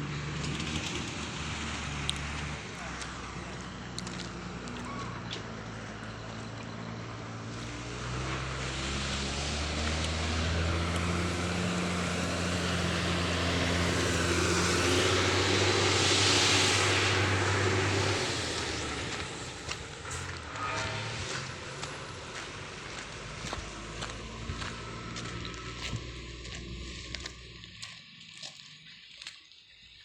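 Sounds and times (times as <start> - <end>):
large engine droning: 0.0 - 29.9.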